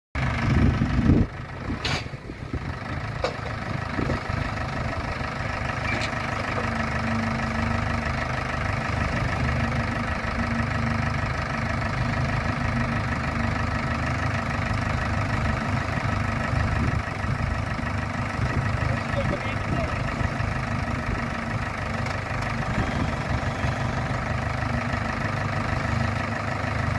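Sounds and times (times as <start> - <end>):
tractor diesel engines running: 0.2 - 26.9.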